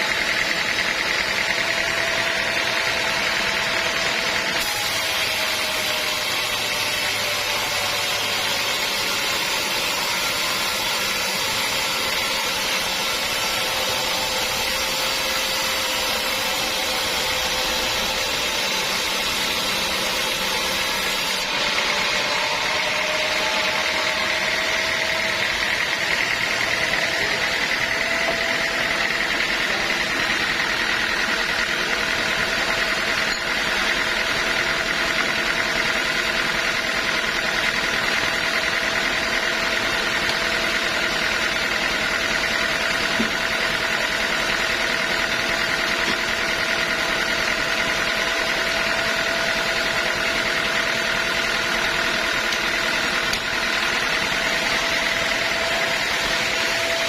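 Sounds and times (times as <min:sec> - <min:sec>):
sawmill machinery din: 0:00.0 - 0:57.0.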